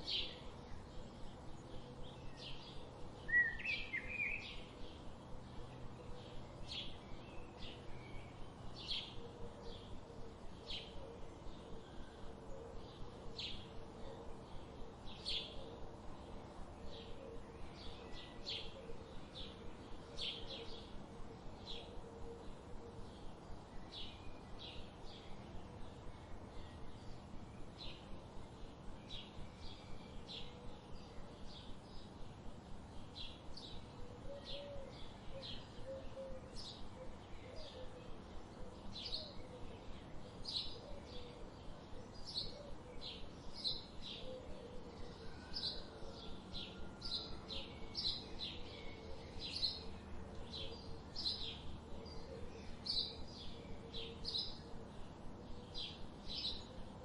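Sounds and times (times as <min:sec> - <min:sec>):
background hiss: 0:00.0 - 0:57.0
songbirds chirping: 0:00.0 - 0:57.0.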